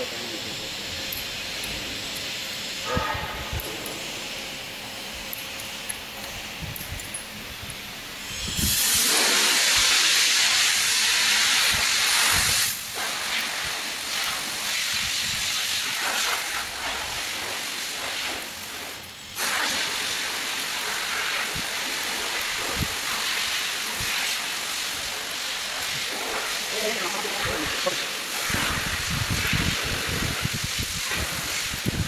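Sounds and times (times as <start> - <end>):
loud steady hiss: 0.0 - 32.0.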